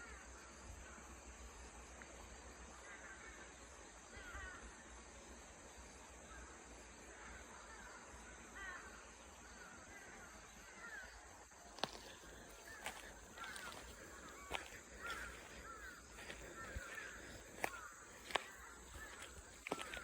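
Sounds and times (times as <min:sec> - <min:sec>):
faint bird calls: 0:02.6 - 0:05.2, 0:06.0 - 0:20.0.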